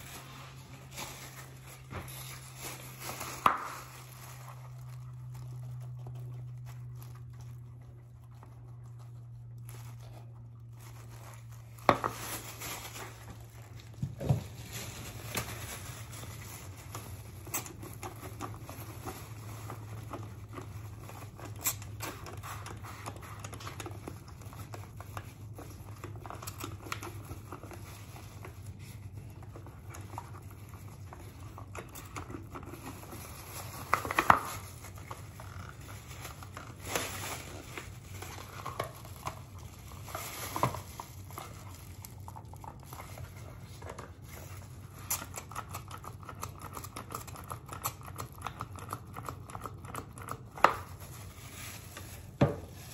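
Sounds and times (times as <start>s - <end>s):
plastic gloves and bag crinkling: 0.0s - 52.9s.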